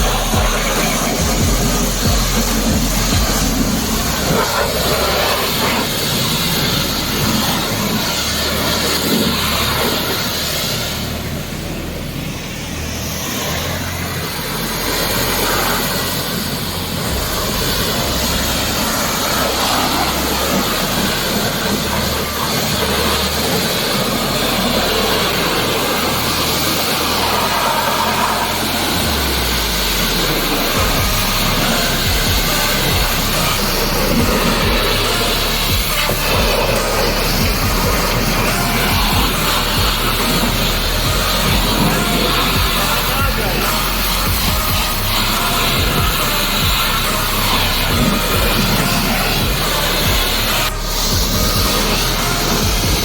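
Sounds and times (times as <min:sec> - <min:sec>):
motor humming low: 0:00.0 - 0:53.0
pressure washer spraying: 0:00.0 - 0:53.0.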